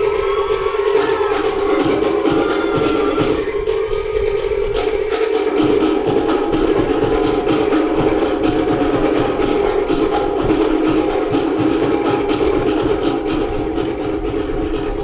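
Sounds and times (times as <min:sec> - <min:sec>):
deep skin drum beat: 0:00.0 - 0:15.0
wooden slit drums: 0:00.0 - 0:15.0.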